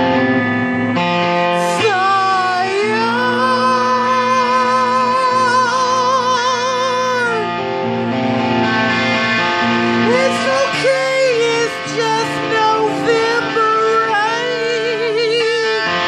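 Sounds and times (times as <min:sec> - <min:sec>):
electric guitar lead: 0:00.0 - 0:16.0.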